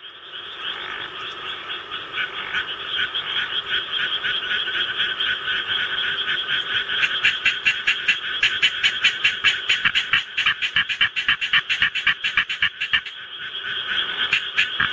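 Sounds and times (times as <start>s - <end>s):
frog chorus: 0.0s - 14.9s
tree frog croaking rapidly: 0.6s - 14.9s.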